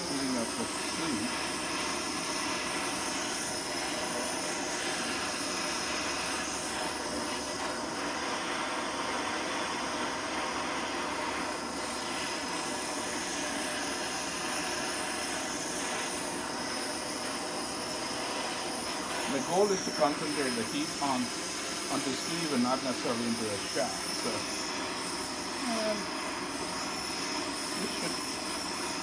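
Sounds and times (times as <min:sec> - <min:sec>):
blowtorch flame rushing: 0:00.0 - 0:29.0.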